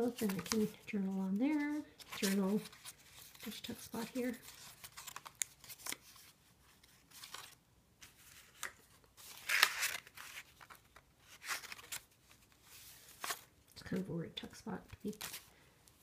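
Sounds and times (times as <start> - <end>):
paper pages rustling: 0.0 - 14.0, 14.9 - 16.0.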